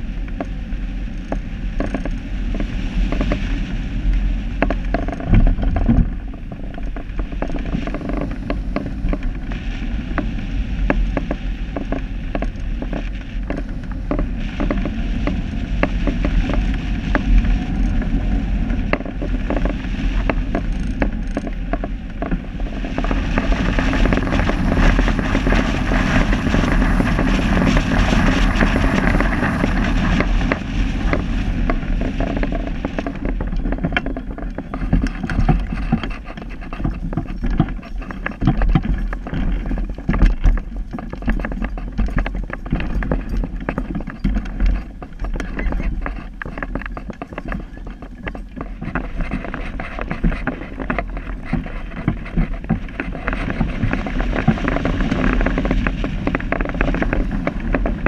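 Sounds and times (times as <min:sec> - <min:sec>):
small clicks and creaks: 0:00.0 - 0:58.0
wind buffeting microphone: 0:00.0 - 0:58.0.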